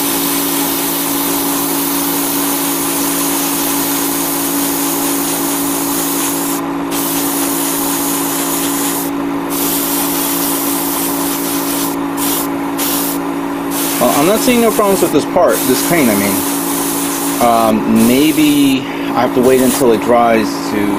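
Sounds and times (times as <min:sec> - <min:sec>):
airbrush spraying hiss: 0:00.0 - 0:20.0
low motor hum: 0:00.0 - 0:20.9.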